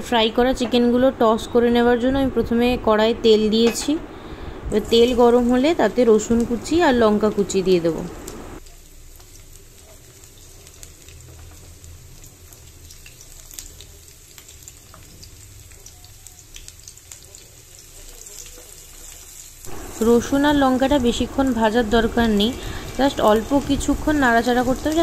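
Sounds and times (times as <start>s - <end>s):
garlic sizzling in hot oil: 4.7s - 25.0s.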